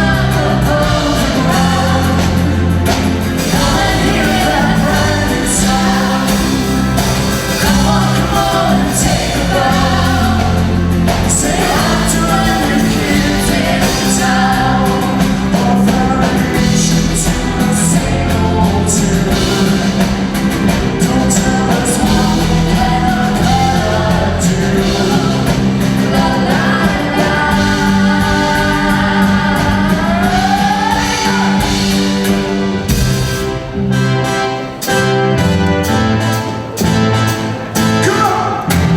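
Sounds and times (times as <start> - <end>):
instrumental backing: 0.0 - 38.9
voices singing: 0.0 - 38.9.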